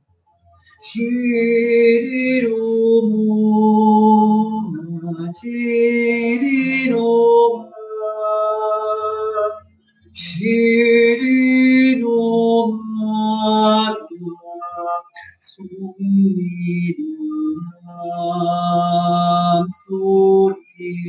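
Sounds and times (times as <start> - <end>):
man singing long-held notes: 0.8 - 9.6, 10.2 - 21.0.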